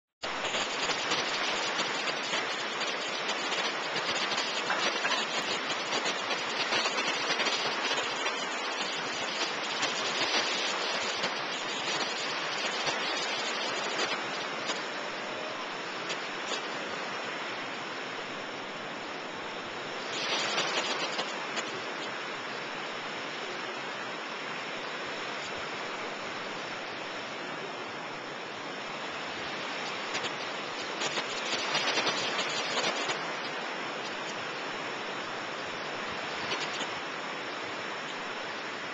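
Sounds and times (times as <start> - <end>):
ocean waves breaking: 0.2 - 38.9.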